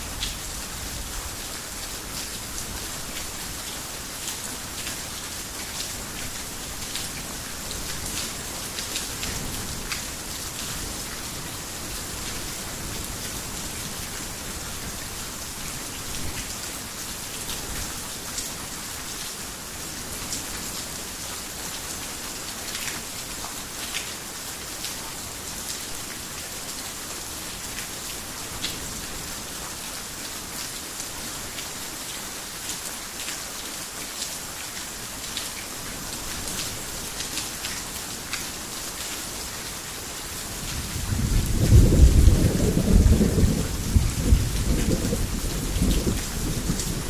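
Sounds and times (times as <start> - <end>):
heavy rain on a roof: 0.0 - 47.0.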